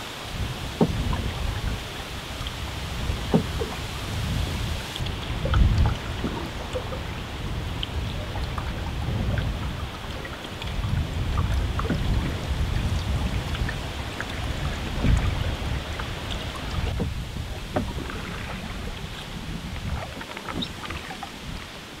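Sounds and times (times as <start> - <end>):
wind buffeting microphone: 0.0 - 21.9
water splashes from canoe: 0.0 - 22.0.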